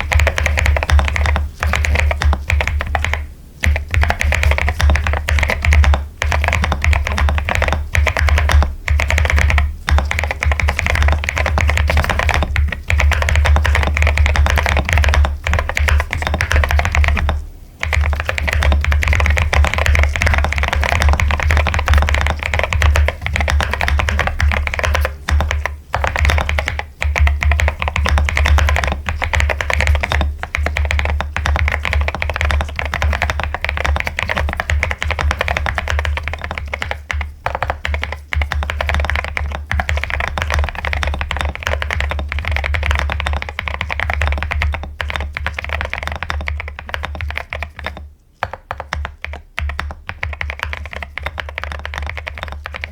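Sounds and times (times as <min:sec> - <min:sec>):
typing on mechanical keyboard: 0:00.0 - 0:52.9.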